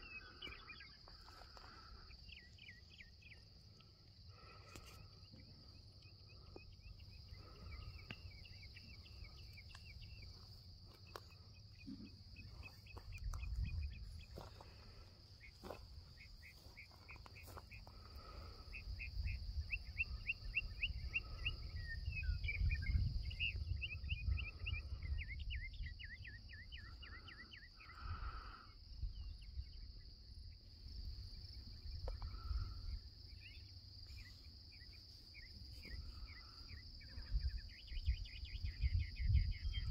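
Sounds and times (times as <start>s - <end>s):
insects buzzing and chirping: 0.0s - 39.9s.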